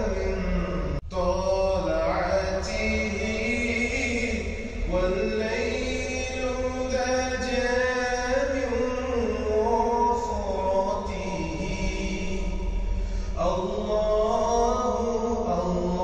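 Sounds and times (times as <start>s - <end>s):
chanted vocal music: 0.0s - 16.0s.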